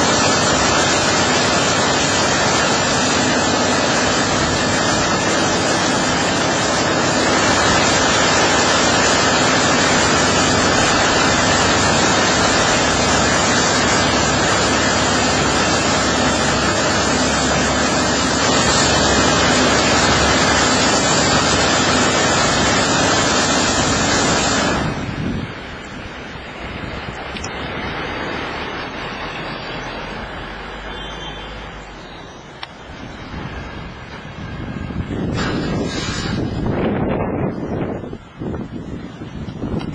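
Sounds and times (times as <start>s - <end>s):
high-pressure water jets hissing: 0.0s - 39.9s.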